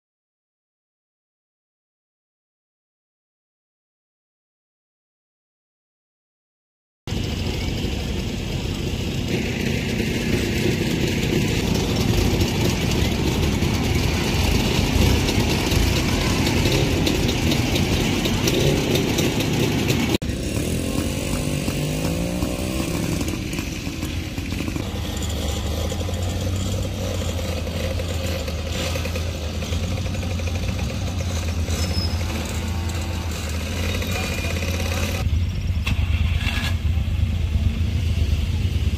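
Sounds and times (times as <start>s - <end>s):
vintage cars and motorcycles passing: 7.1s - 38.9s.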